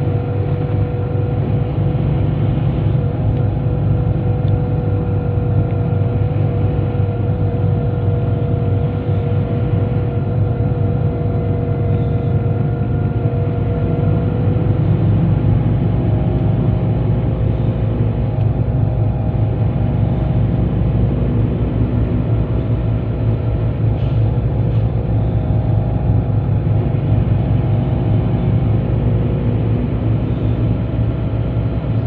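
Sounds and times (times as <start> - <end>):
bus engine and tyre drone: 0.0 - 32.0
steady whine: 0.0 - 32.0.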